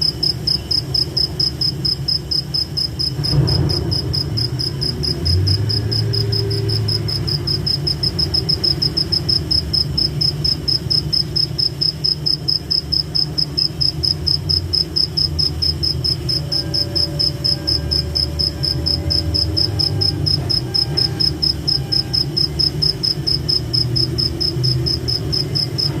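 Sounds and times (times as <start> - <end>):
cricket chirping: 0.0 - 26.0
low steady rumble: 0.0 - 26.0.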